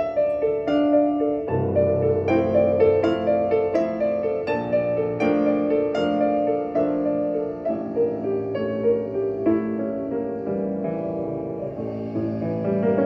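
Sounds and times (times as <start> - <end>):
instrumental piano music over loudspeakers: 0.0 - 13.0.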